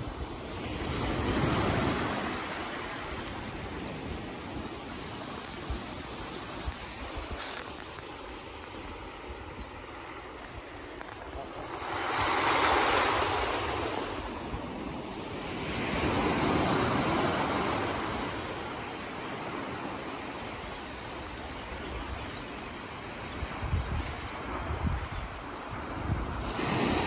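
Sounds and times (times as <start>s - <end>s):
ocean surf breaking: 0.0s - 9.5s, 10.2s - 20.9s, 25.4s - 27.0s.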